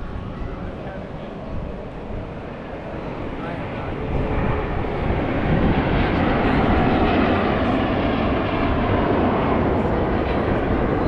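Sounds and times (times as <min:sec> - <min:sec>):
airplane engine rush: 0:00.0 - 0:11.0.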